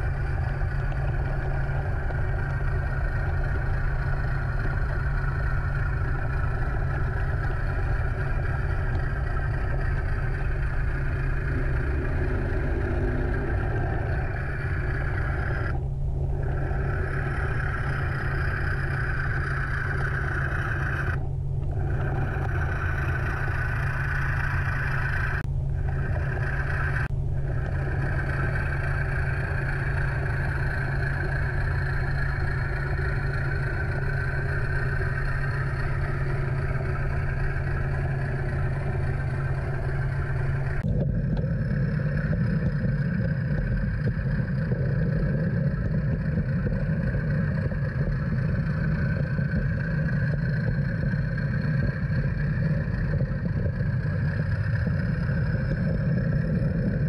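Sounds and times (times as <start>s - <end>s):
model locomotive diesel drone: 0.0s - 57.0s.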